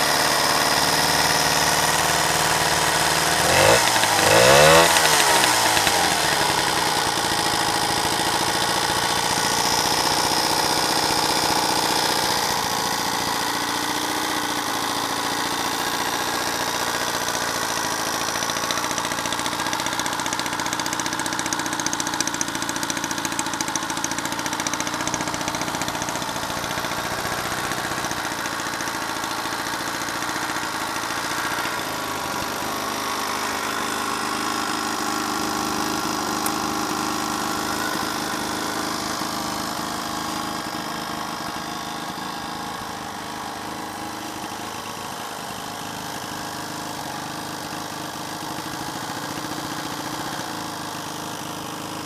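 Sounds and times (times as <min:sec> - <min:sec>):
moped engine idling: 0:00.0 - 0:52.0.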